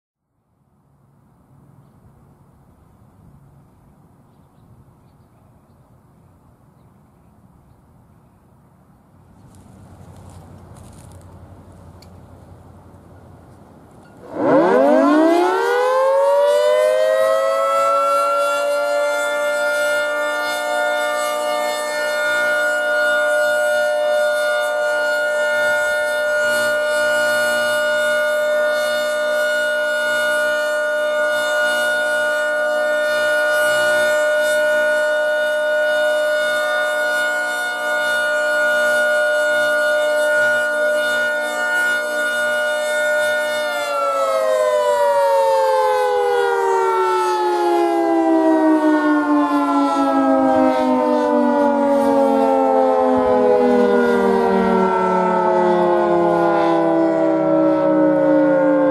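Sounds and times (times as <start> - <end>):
warning siren: 9.4 - 58.9.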